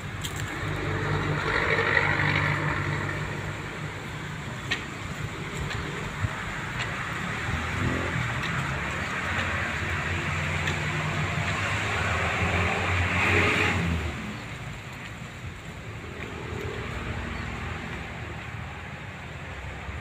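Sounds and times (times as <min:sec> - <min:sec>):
vehicle passing: 0:00.0 - 0:20.0.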